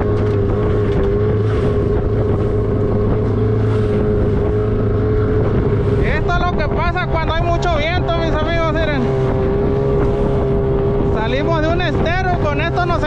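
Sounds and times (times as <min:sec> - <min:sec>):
boat on choppy water: 0:00.0 - 0:13.0
outboard motor running: 0:00.0 - 0:13.0
wind on microphone: 0:00.0 - 0:13.0.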